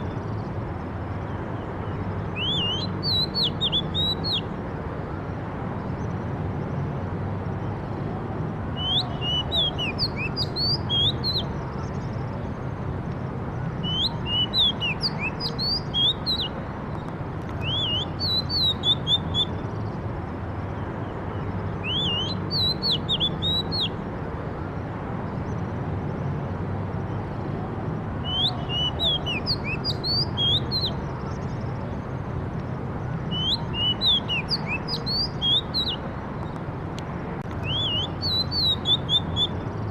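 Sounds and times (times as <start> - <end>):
songbird chirping: 0.0 - 4.9, 8.7 - 24.0, 28.1 - 39.9.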